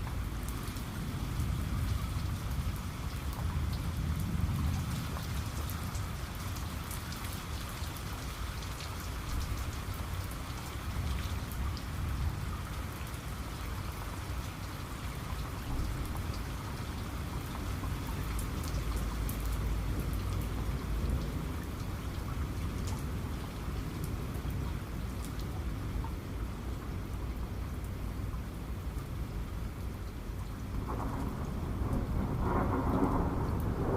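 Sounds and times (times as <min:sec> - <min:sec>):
rain falling on surface: 0:00.0 - 0:33.9.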